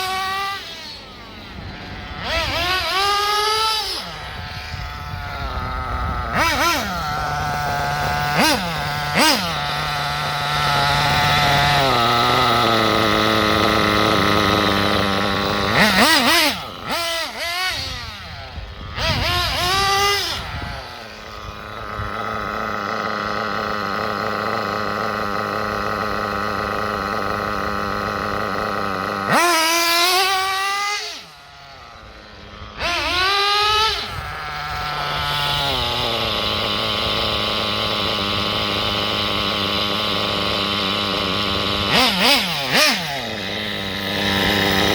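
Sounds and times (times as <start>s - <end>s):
nitro engine idling and revving: 0.0s - 44.9s.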